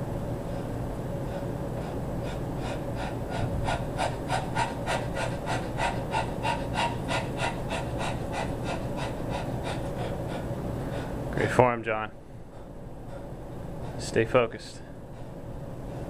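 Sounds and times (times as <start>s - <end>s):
man panting hard: 0.4s - 11.3s, 12.4s - 14.2s, 14.8s - 16.0s.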